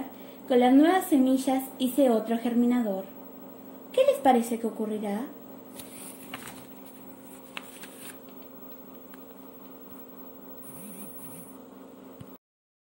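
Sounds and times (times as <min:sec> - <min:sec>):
faint steady hum: 0:00.0 - 0:12.4.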